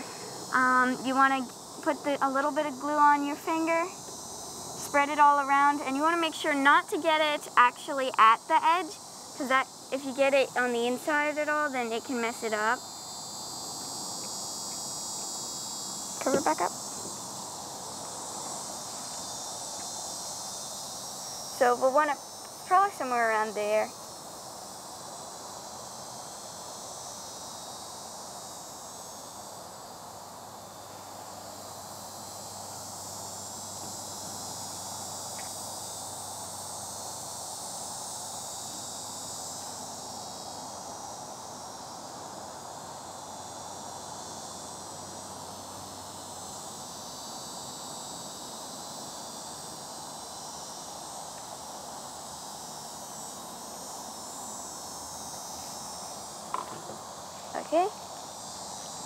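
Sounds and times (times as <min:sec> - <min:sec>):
insect chorus droning: 0:00.0 - 0:59.0.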